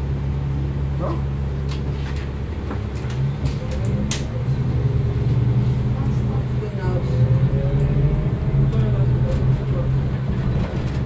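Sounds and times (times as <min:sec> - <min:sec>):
bus drivetrain hum: 0:00.0 - 0:11.0.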